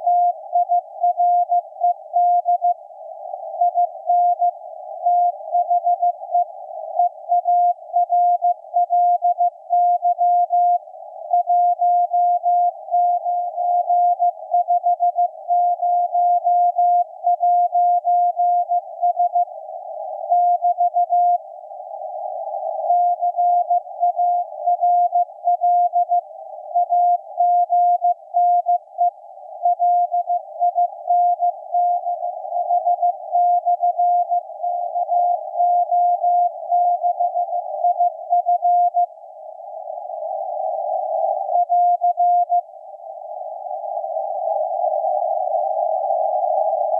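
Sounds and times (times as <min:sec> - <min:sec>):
receiver hiss: 0:00.0 - 0:46.9.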